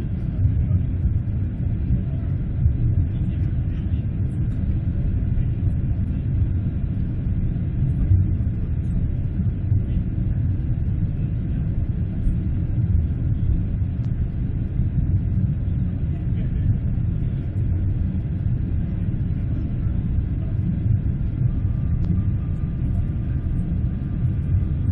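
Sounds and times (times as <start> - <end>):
low steady rumble: 0.0 - 24.9.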